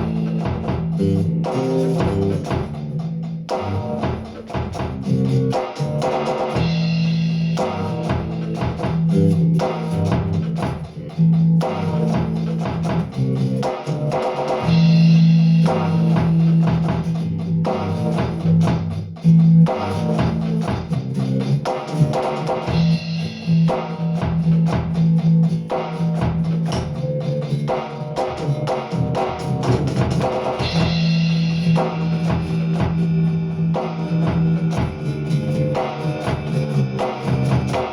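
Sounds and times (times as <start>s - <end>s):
drum kit: 0.0s - 37.9s
electric bass playing: 0.0s - 37.9s.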